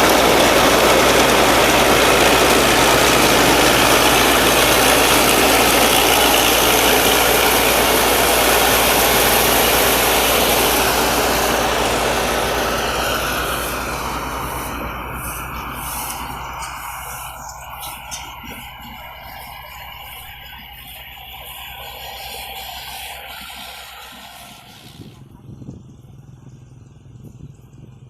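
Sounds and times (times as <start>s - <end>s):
combine harvester diesel engine running: 0.0s - 28.0s.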